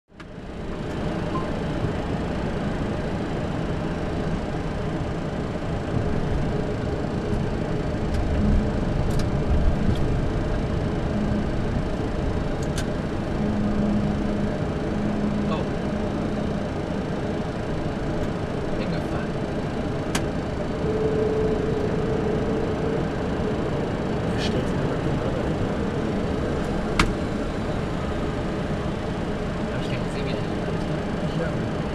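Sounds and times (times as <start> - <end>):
engine and air conditioning rumble: 0.1 - 31.9.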